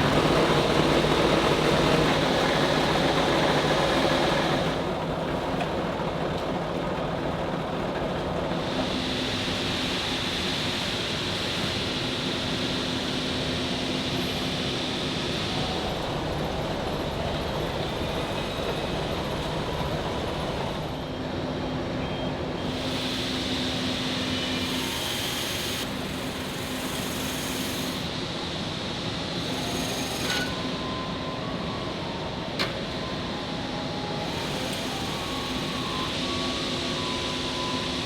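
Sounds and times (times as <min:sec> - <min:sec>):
industrial machinery humming: 0:00.0 - 0:38.0.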